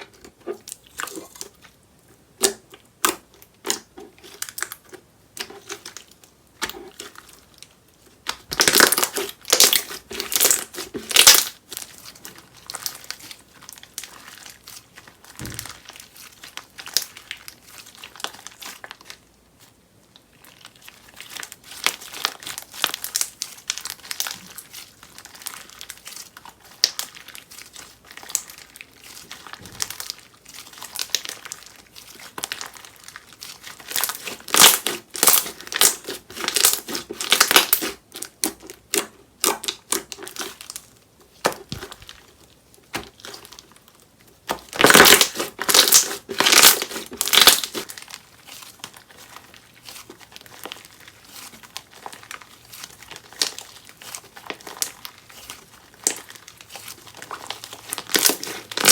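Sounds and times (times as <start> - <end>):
slime crackling by hand: 0.0 - 58.9.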